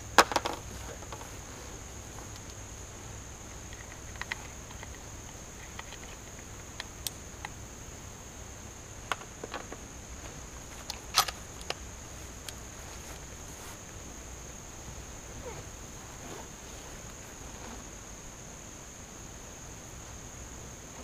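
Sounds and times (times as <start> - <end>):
high insect drone: 0.0 - 21.0
low outdoor rumble: 0.0 - 21.0.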